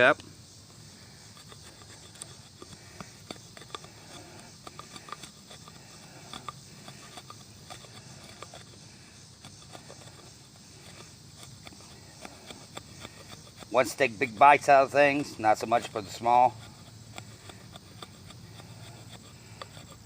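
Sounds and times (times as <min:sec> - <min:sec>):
hatchet shaving wood: 0:00.8 - 0:20.0.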